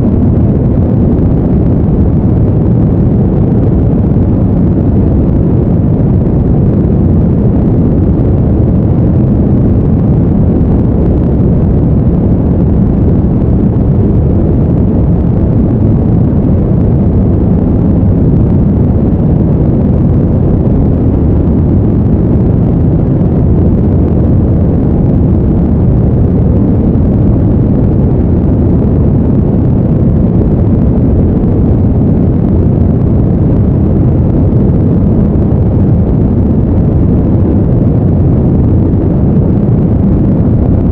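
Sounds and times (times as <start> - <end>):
brown noise: 0.0 - 40.9.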